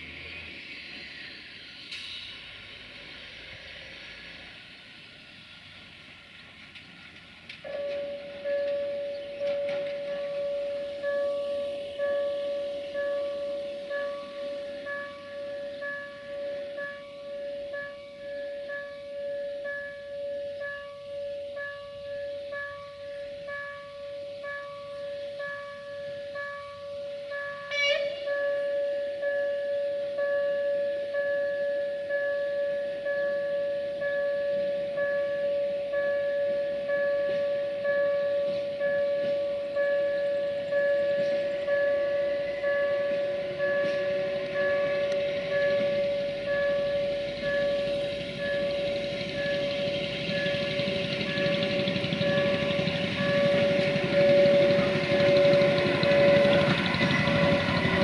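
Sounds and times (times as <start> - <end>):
rail vehicle rumble and hiss: 0.0 - 58.0
level crossing warning tones: 7.6 - 58.0.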